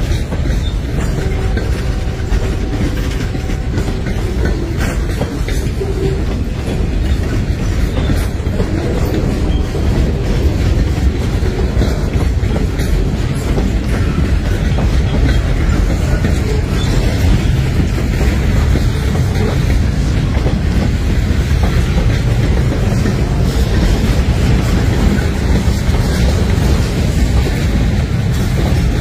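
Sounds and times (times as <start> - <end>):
train wheels rumbling on rail: 0.0 - 29.0
wheels clicking over rail joints: 0.0 - 29.0.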